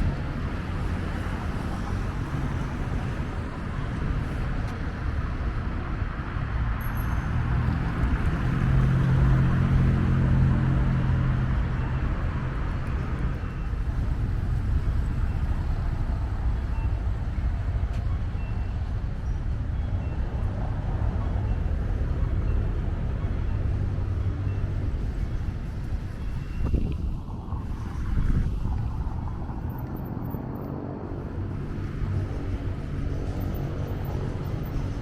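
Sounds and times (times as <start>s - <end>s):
city street traffic rumble: 0.0s - 35.0s
vehicle engine hum: 0.0s - 35.0s.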